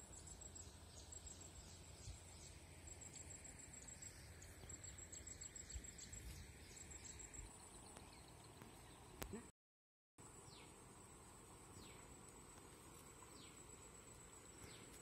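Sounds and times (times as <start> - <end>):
insect trill: 0.0 - 8.6, 10.2 - 15.0.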